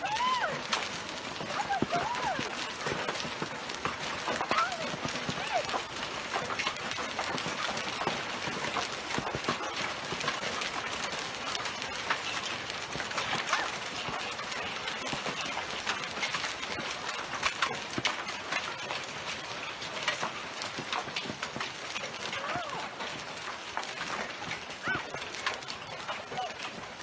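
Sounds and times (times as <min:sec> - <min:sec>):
hail clattering and splashing: 0:00.0 - 0:27.0.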